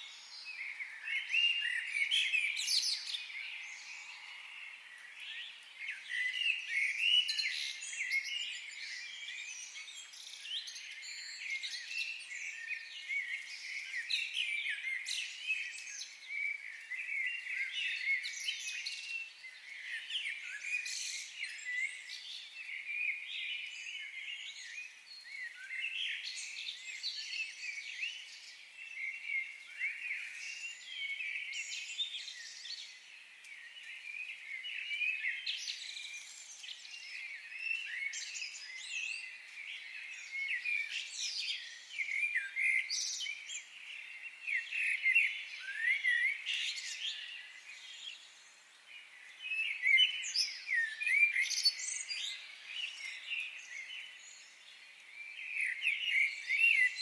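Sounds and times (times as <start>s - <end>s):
forest birds chorus: 0.0s - 57.0s.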